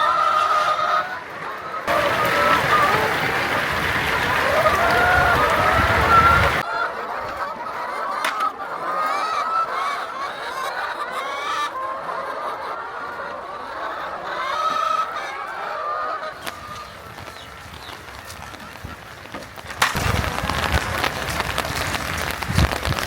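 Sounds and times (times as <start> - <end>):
flock of poultry calling: 0.0 - 23.0.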